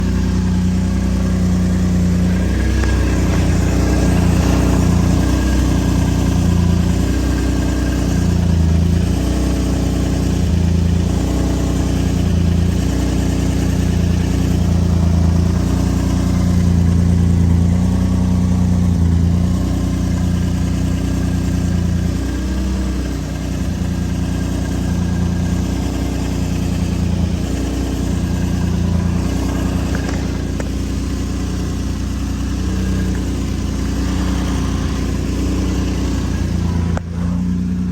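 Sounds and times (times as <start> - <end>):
vehicle engine idling: 0.0 - 37.9.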